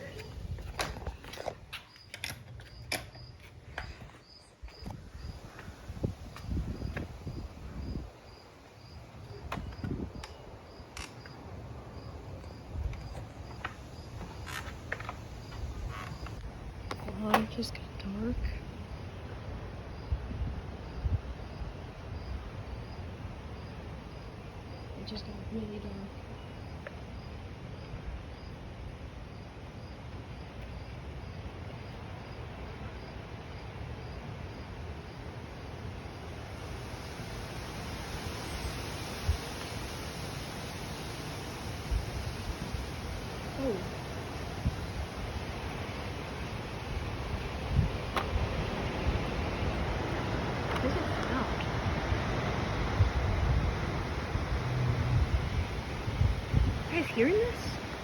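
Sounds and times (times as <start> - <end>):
cricket chirping: 0.0 - 58.0
low rush of wind: 0.0 - 58.0.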